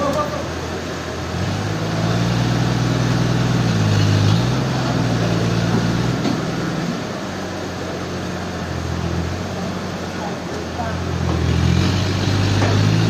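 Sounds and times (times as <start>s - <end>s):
large engine running: 0.0s - 13.0s.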